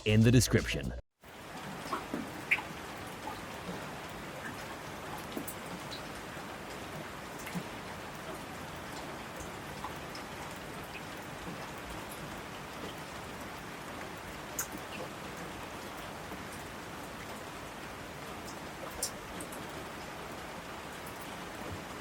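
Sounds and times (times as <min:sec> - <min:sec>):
steady rain hiss: 0:01.4 - 0:22.0.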